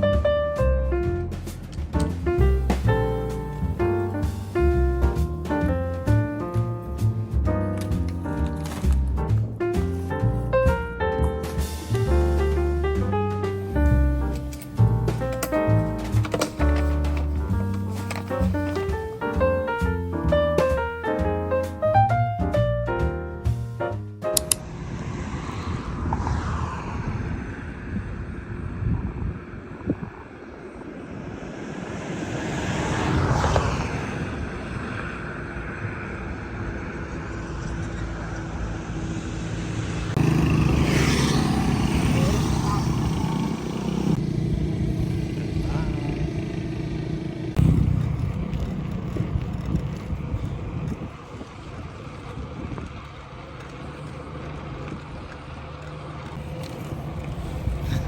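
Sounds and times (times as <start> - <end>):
steady engine hum: 0.0 - 58.0
motor vehicle passing: 0.6 - 58.0.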